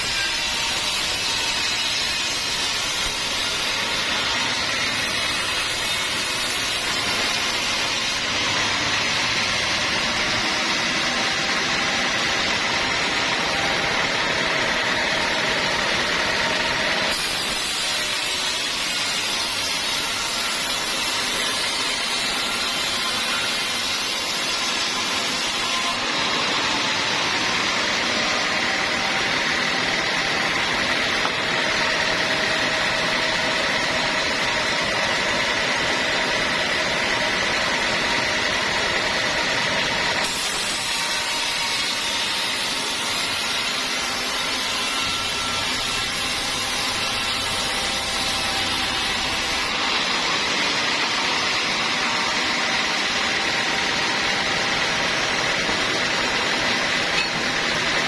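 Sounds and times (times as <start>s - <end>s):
sawmill machinery drone: 0.0s - 58.0s.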